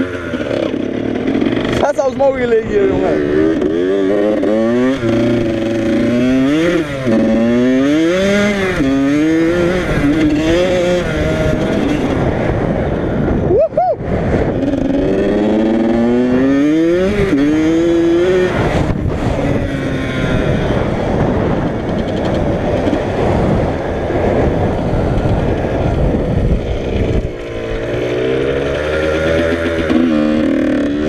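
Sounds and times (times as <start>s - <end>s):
dirt bike engine revving: 0.0s - 13.5s, 14.2s - 31.0s
wind on microphone: 0.0s - 31.0s.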